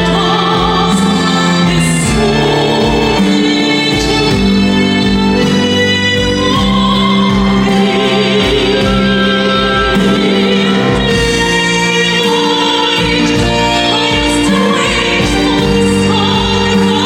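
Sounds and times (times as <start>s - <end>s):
woman singing a ballad: 0.0s - 17.0s.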